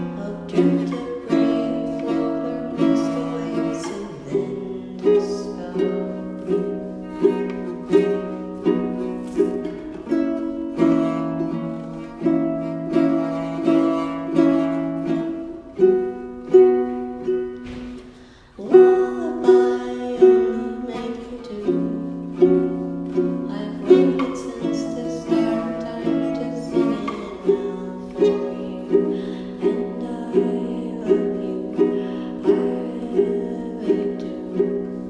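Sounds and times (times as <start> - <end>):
plucked string instrument chords: 0.0 - 35.0.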